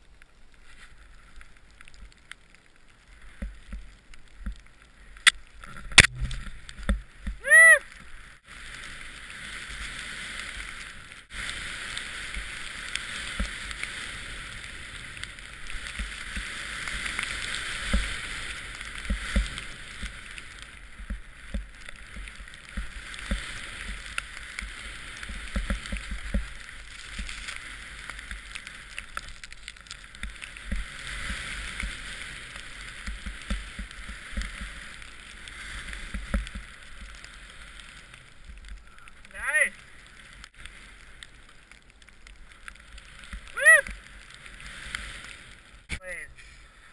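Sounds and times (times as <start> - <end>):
skis hissing through powder snow: 6.5 - 41.6, 42.3 - 46.9.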